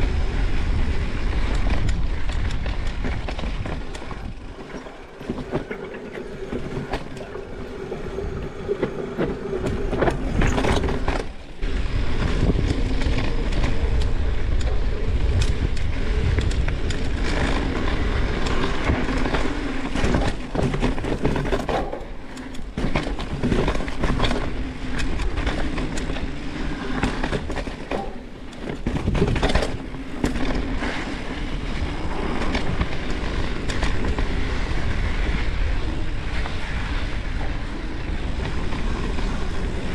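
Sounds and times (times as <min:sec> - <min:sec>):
bike clattering over bumps: 0:00.0 - 0:39.9
bike tires crunching on dirt: 0:00.0 - 0:39.9.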